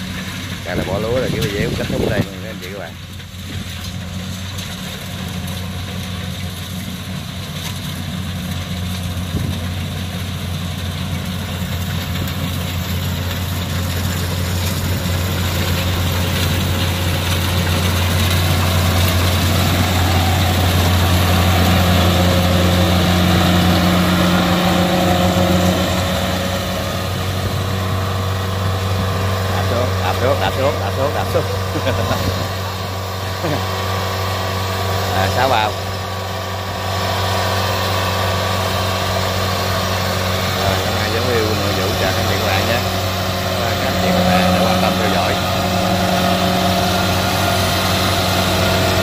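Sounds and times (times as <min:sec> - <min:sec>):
combine harvester diesel engine: 0:00.0 - 0:49.0.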